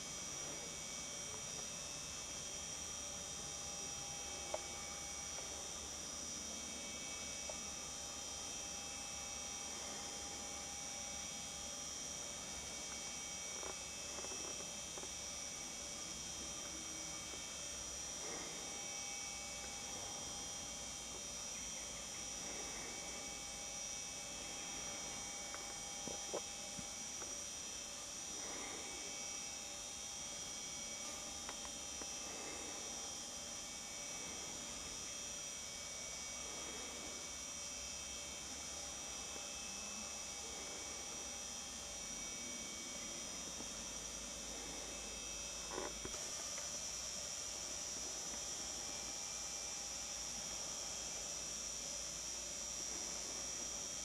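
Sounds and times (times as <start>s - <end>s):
constant high whine: 0.0s - 54.0s
faint hum and hiss: 0.0s - 54.0s.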